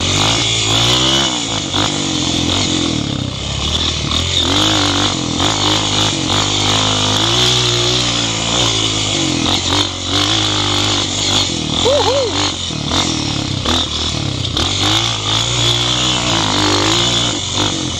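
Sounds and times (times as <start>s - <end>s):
dirt bike engines revving: 0.0s - 17.9s.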